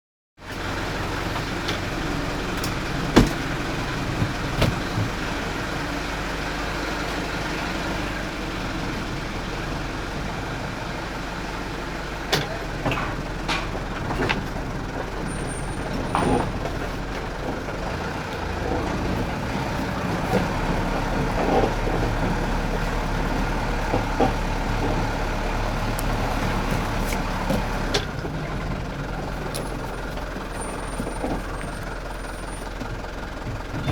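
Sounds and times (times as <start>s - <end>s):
truck engine drone: 0.4s - 33.9s.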